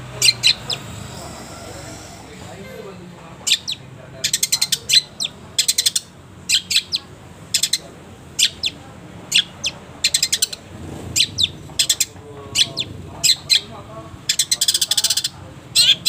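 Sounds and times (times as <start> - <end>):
shrike chirping in bursts: 0.1 - 1.8, 3.4 - 16.0.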